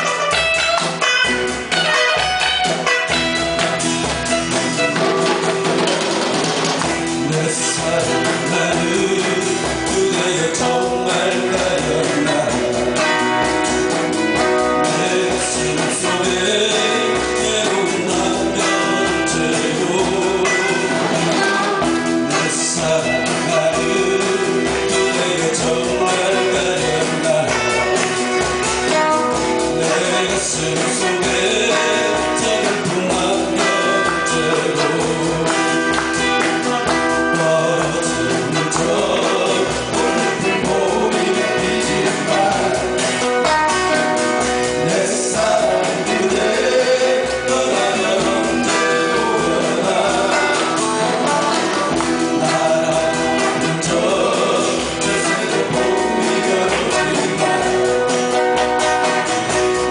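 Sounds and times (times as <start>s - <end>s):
live band playing: 0.0s - 59.9s
person singing: 0.0s - 59.9s.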